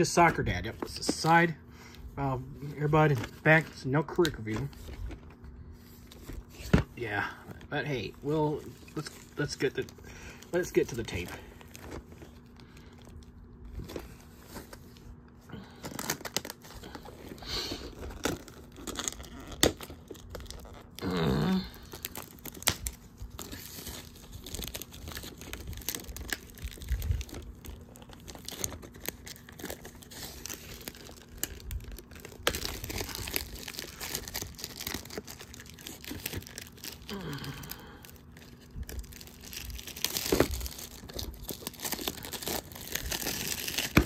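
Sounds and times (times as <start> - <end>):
plastic wrap tearing and crinkling: 8.0 - 44.0.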